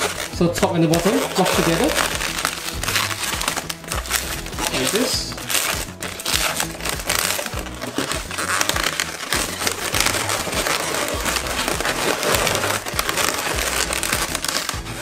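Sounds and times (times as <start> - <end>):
background music: 0.0 - 15.0
balloons squeaking and rubbing: 0.0 - 15.0.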